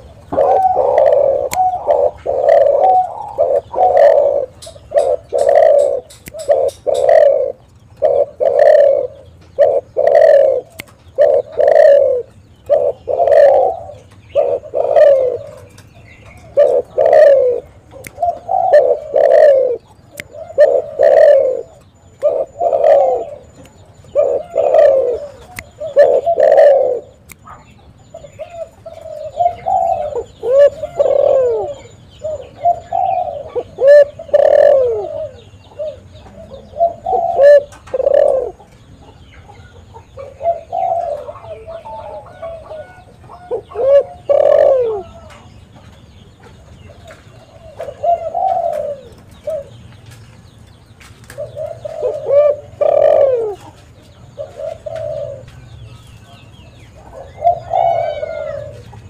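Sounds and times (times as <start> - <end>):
dove cooing: 0.0 - 45.6, 46.4 - 49.8, 51.2 - 59.0.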